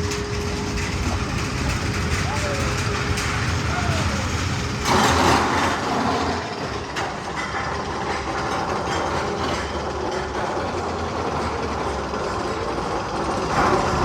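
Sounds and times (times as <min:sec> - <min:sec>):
roller coaster rattling on track: 0:00.0 - 0:14.0.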